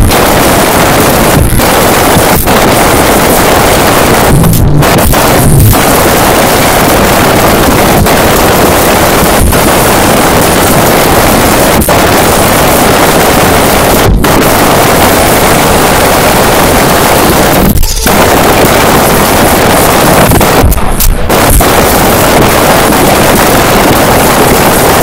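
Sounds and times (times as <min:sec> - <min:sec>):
heavily distorted music: 0:00.0 - 0:25.0.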